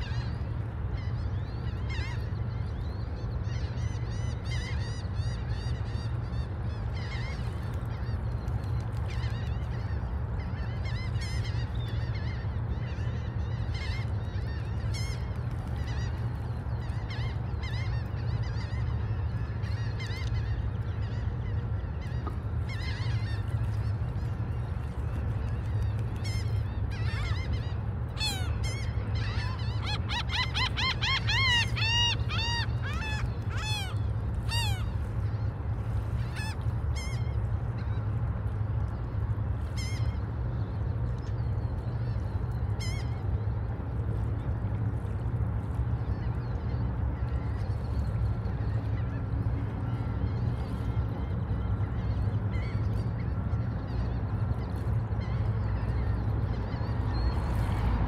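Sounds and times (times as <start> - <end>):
gulls calling: 0.0 - 58.0.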